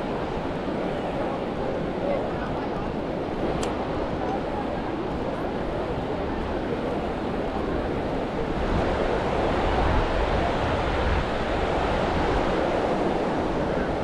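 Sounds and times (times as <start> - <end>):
surf washing onto beach: 0.0 - 14.0
wind rumbling on microphone: 0.0 - 14.0.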